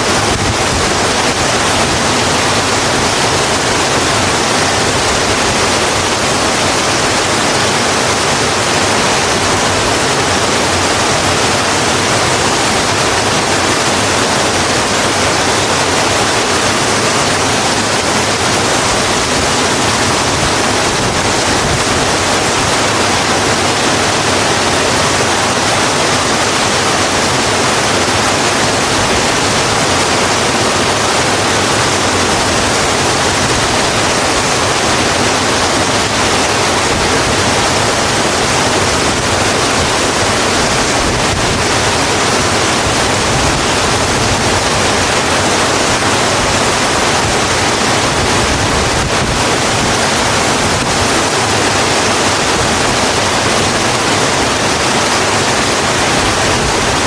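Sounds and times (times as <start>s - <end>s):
heavy rain on a road: 0.0s - 57.0s.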